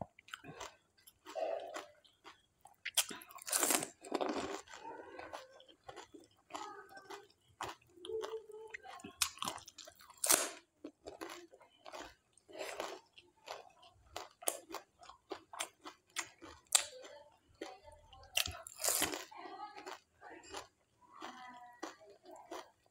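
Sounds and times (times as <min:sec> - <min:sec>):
wet chewing: 0:00.0 - 0:22.9.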